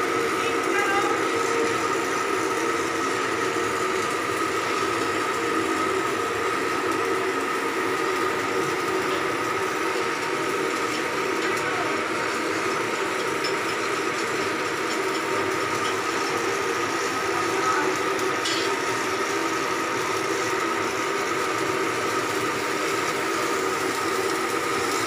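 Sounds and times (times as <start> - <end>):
arc welding sizzle: 0.0 - 25.0.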